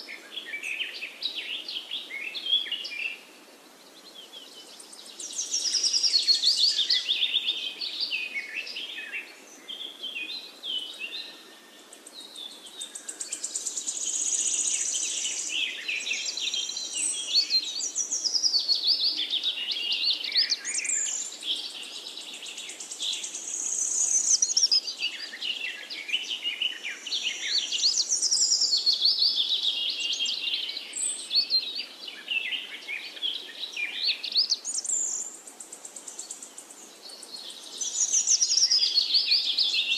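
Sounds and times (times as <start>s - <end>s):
songbird singing trills: 4.0s - 39.9s.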